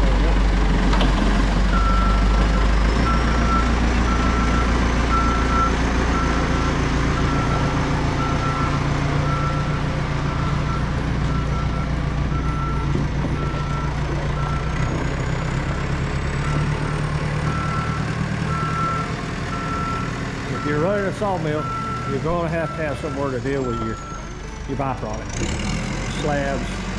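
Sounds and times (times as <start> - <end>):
heavy machine engine running: 0.0 - 26.9
reversing alarm beeping: 1.6 - 24.5.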